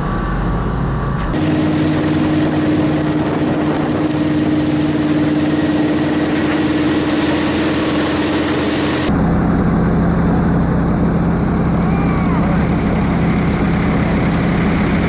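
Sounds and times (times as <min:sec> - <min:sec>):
airboat engine roaring: 0:00.0 - 0:15.0.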